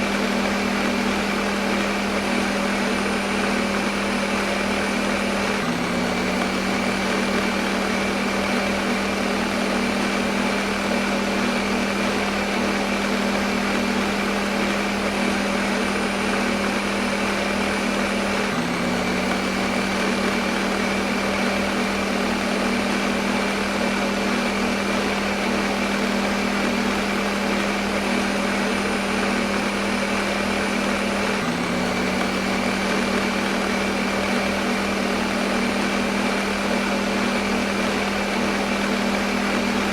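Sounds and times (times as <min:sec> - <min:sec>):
kitchen blender running: 0:00.0 - 0:39.9.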